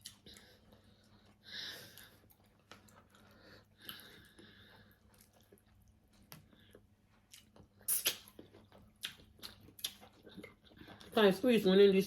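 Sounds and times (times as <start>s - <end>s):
people chewing: 0.0s - 11.4s.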